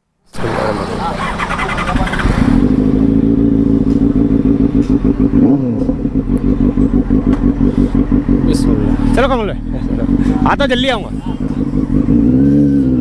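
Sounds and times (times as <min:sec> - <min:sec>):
motorcycle engine running: 0:00.4 - 0:13.0.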